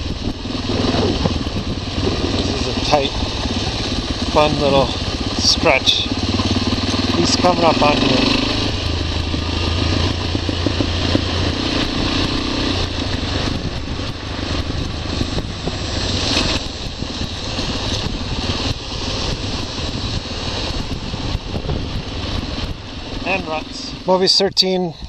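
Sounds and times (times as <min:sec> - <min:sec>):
motorcycle engine running: 0:00.0 - 0:24.1
wind rushing over microphone: 0:00.0 - 0:25.0.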